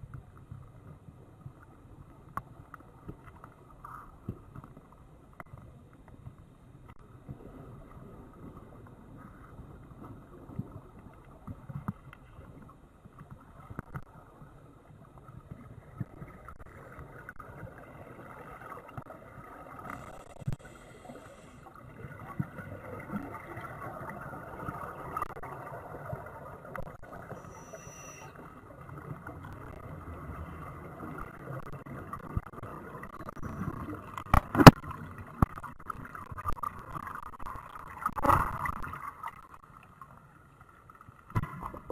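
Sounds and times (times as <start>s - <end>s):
muffled underwater rushing: 0.0s - 41.9s.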